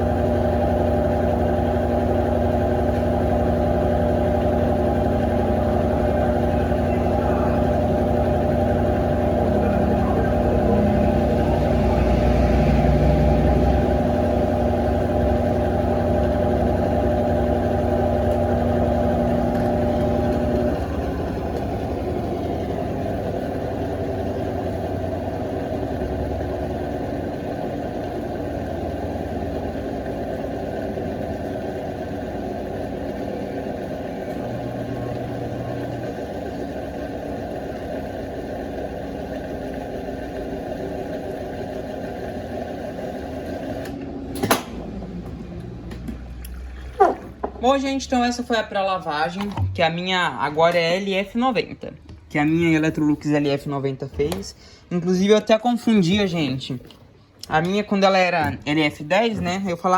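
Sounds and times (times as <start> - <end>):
washing machine motor hum: 0.0 - 59.9
washing machine rough running: 0.0 - 59.9.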